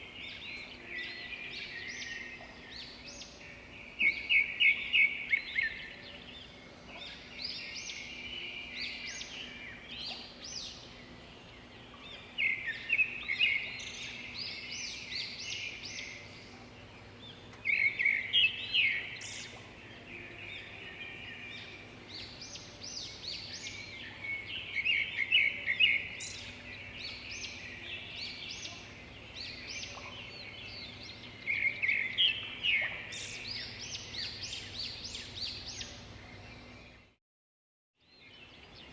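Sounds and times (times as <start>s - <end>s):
small birds chirping: 0.0s - 37.2s.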